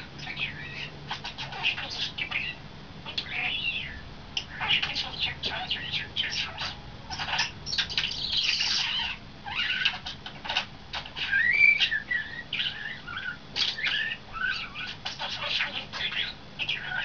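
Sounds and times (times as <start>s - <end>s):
starling singing: 0.0s - 17.0s.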